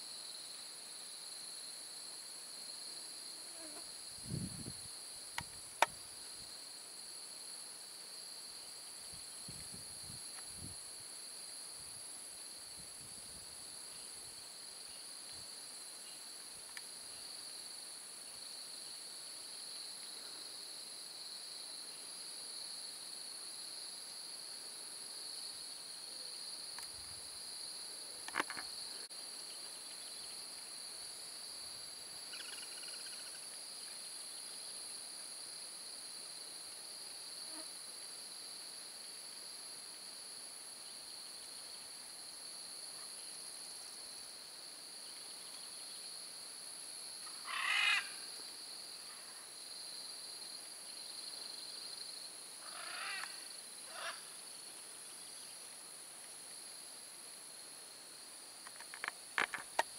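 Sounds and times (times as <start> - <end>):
insects trilling: 0.0 - 35.6, 40.8 - 59.9.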